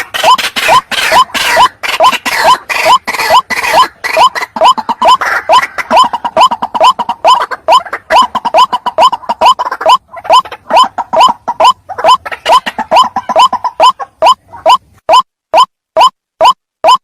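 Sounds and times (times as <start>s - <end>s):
waterhen calling: 0.0s - 17.0s.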